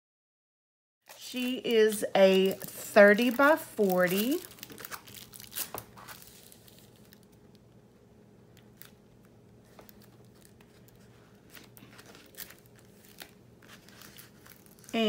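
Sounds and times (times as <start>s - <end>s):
plastic film crinkling: 1.1s - 7.8s, 8.5s - 15.0s
faint room hum: 1.1s - 15.0s.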